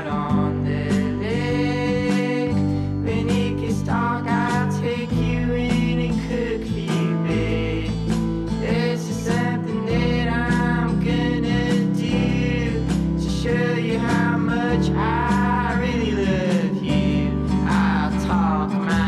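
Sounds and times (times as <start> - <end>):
acoustic guitar: 0.0 - 19.0
person singing: 0.0 - 19.0.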